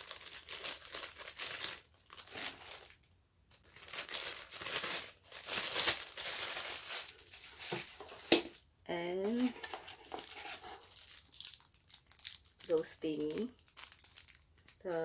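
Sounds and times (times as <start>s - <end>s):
plastic bag crinkling: 0.0s - 8.6s, 9.2s - 15.0s.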